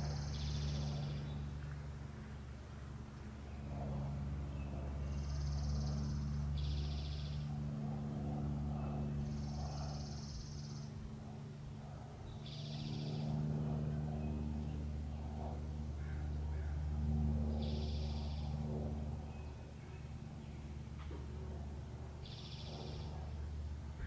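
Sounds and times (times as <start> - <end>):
songbirds trilling: 0.0 - 1.6, 3.3 - 11.1, 12.1 - 24.0
steady low hum: 0.0 - 24.0.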